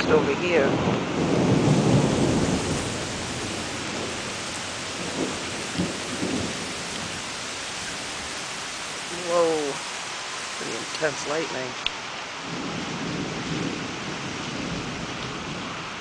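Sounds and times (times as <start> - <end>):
thunder rumbling: 0.0 - 11.8, 12.4 - 16.0
steady rain falling: 0.0 - 16.0.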